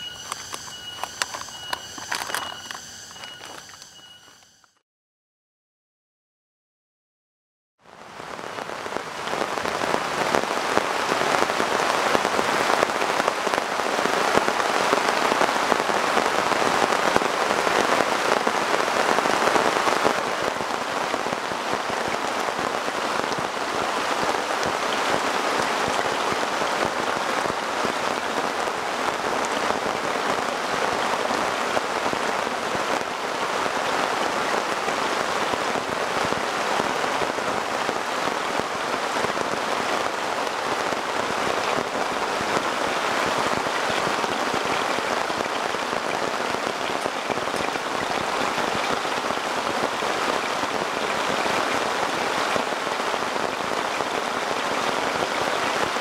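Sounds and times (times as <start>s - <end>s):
heavy rain pouring: 0.0s - 4.4s, 7.8s - 56.0s.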